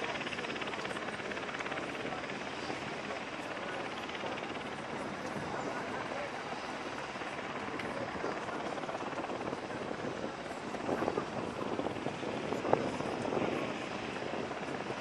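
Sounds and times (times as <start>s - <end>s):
crowd talking: 0.0s - 15.0s
helicopter running: 0.0s - 15.0s.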